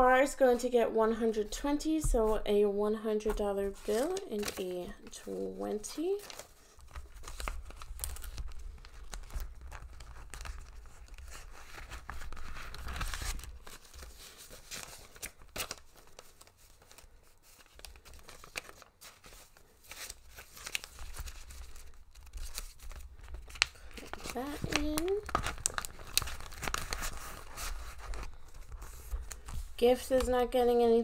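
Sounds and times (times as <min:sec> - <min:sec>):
paper banknotes rustling: 0:03.2 - 0:31.0
plastic envelope crinkling: 0:03.3 - 0:31.0.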